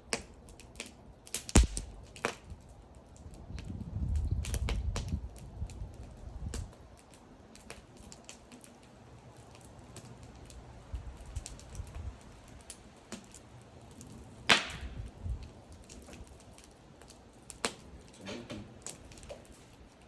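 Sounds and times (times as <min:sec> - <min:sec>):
bonfire crackling: 0:00.0 - 0:20.0
wood popping and snapping: 0:00.1 - 0:20.0.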